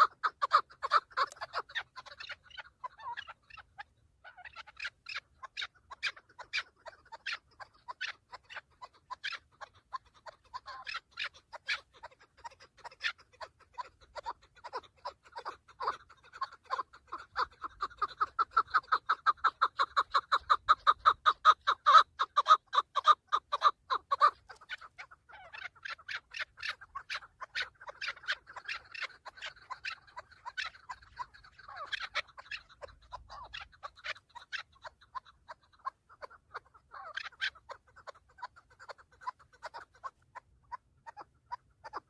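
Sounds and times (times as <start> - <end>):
partridge clucking calls: 0.0 - 42.0.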